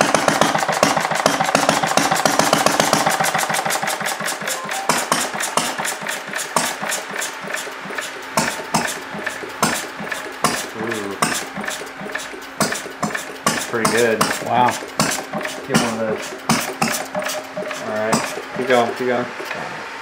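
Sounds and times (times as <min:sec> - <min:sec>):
small engine clattering knocks: 0:00.0 - 0:04.5, 0:05.1 - 0:19.6.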